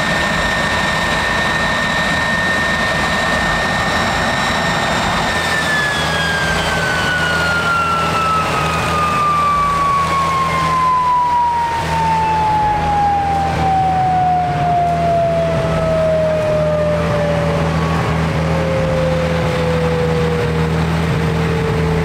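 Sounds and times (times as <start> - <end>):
jet engine whine winding down: 0.0 - 22.0
steady low hum: 0.0 - 22.0.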